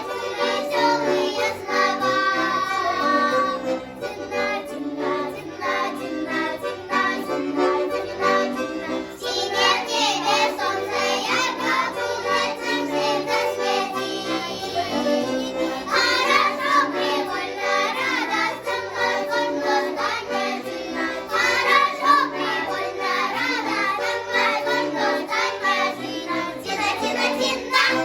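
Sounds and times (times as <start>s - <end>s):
instrumental accompaniment: 0.0s - 28.0s
young voices singing folk song: 0.0s - 28.0s.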